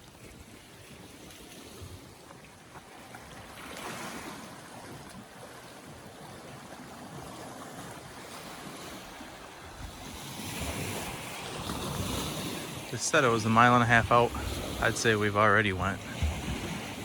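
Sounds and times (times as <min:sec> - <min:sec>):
waves washing on shore: 0:00.0 - 0:17.0.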